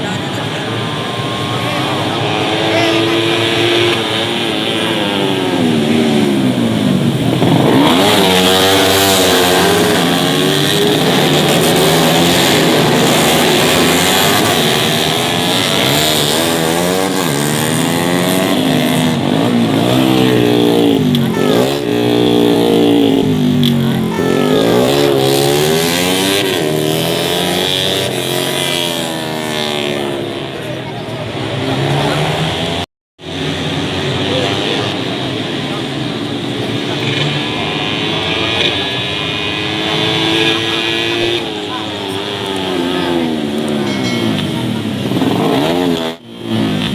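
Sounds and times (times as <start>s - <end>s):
motorcycles racing: 0.0s - 46.9s.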